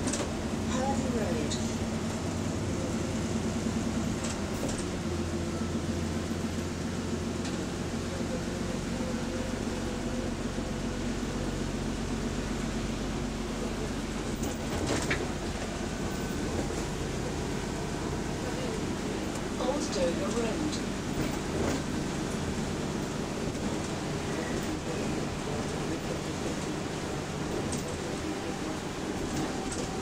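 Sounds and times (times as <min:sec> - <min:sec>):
bus engine drone: 0:00.0 - 0:30.0
road and tyre noise: 0:00.0 - 0:30.0.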